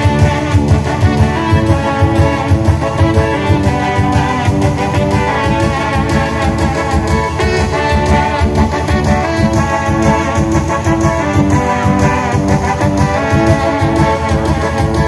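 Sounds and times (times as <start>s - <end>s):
live dance band music: 0.0s - 15.0s.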